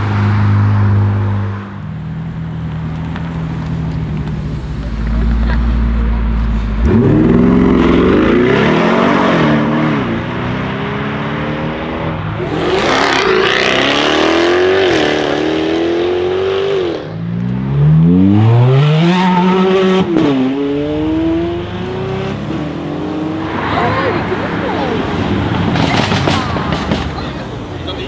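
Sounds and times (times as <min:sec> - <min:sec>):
sports car engines accelerating: 0:00.0 - 0:26.3.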